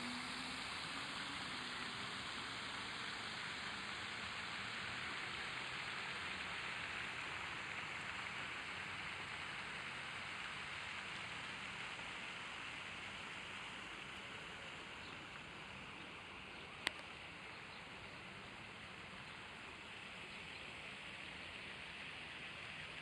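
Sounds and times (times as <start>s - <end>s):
steady outdoor hiss: 0.0s - 23.0s.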